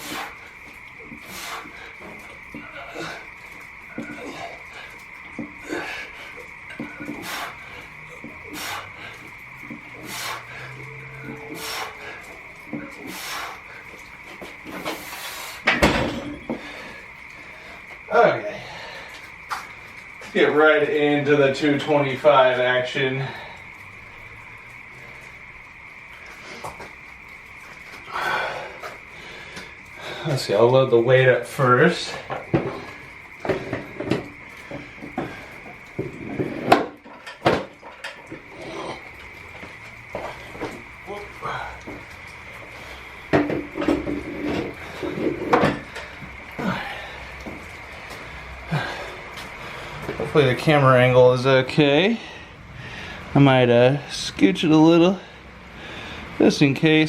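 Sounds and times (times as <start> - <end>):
frogs trilling: 0.0 - 57.0.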